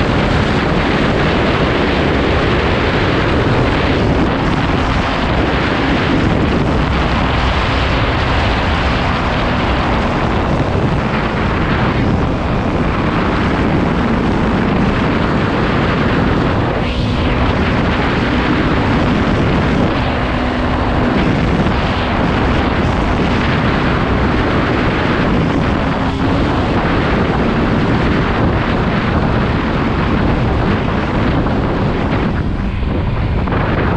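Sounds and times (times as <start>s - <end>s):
motorcycle engine cruising: 0.0s - 33.9s
wind rushing over microphone: 0.0s - 33.9s.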